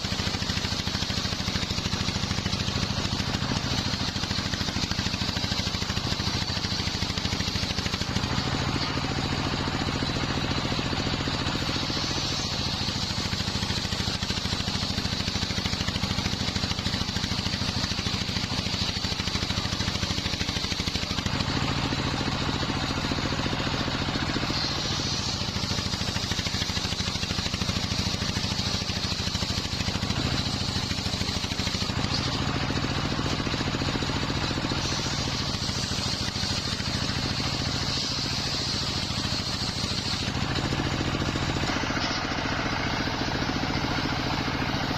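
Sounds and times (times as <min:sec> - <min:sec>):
engine drone: 0:00.0 - 0:44.9
saw blade whine: 0:00.0 - 0:44.9.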